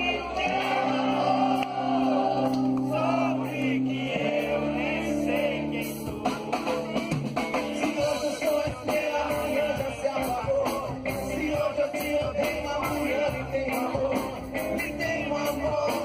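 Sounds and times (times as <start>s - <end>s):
live rock band playing: 0.0s - 16.0s
voices singing along: 0.0s - 16.0s.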